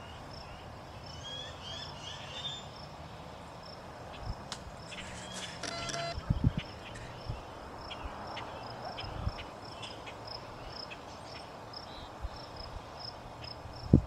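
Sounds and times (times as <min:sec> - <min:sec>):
cricket chirping: 0:00.0 - 0:03.0, 0:03.6 - 0:14.0.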